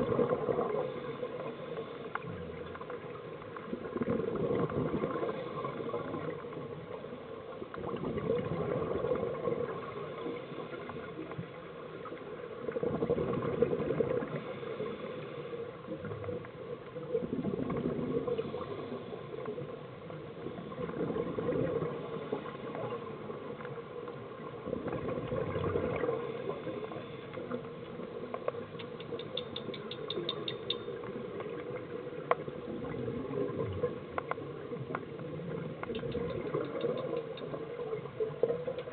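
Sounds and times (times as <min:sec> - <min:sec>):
regulator bubbles gurgling underwater: 0:00.0 - 0:38.9
faint ticks: 0:00.1 - 0:38.9.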